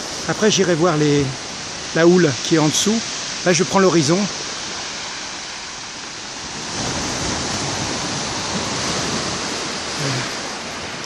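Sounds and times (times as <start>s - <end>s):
sea surf washing: 0.0s - 11.0s.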